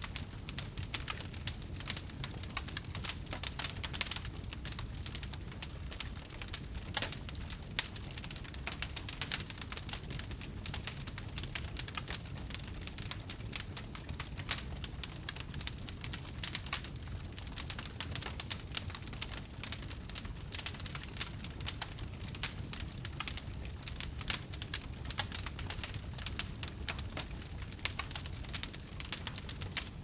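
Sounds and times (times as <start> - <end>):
bonfire crackling: 0.0 - 30.0.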